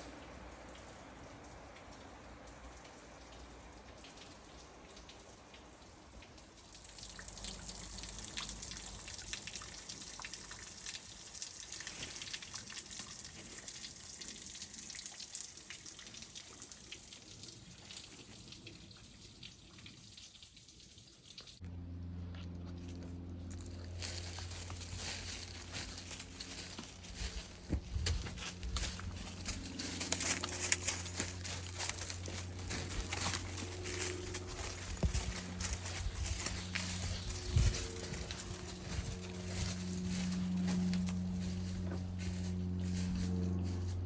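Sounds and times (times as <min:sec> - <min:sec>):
water trickling and dripping: 0:00.0 - 0:21.6, 0:23.4 - 0:43.8.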